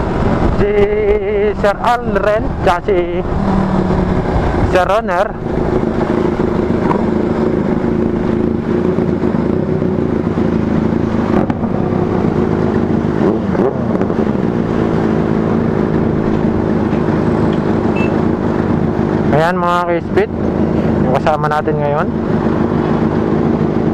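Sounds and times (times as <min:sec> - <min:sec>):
motorcycle engines running: 0:00.0 - 0:23.9.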